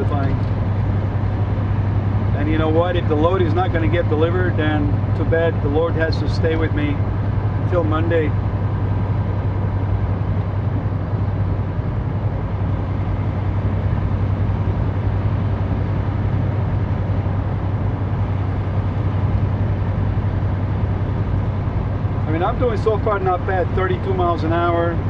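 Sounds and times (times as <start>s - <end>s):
road and cab noise: 0.0s - 25.0s
truck diesel engine droning: 0.0s - 25.0s.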